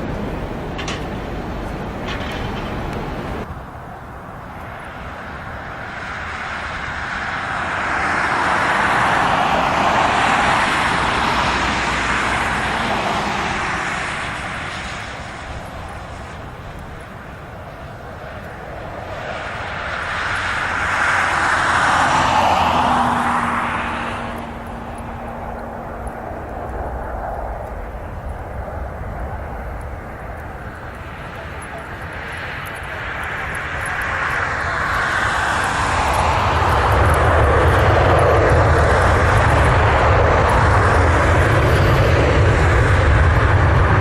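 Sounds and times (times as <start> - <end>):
aircraft engines passing by: 0.0 - 44.0.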